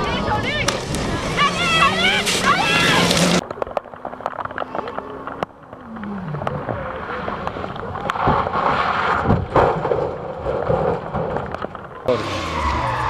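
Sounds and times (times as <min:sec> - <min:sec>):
rally car engine: 0:00.0 - 0:13.0
tyre and road noise: 0:00.0 - 0:13.0.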